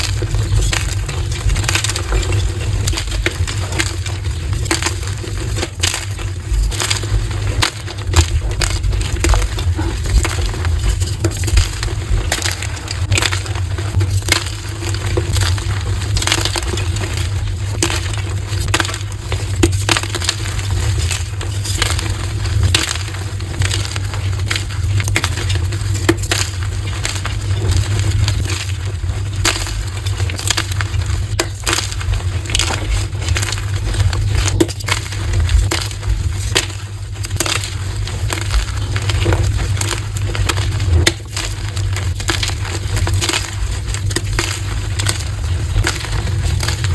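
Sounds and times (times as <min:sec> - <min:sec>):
chalk blocks being crushed: 0:00.0 - 0:46.9
steady low rumble: 0:00.0 - 0:46.9.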